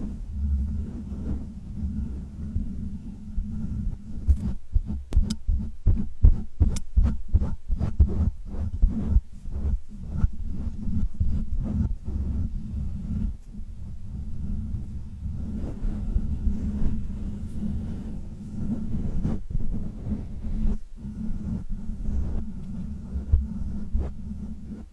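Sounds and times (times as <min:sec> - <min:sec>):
soft low thumps: 0:00.0 - 0:24.9
steady low hum: 0:00.0 - 0:24.9.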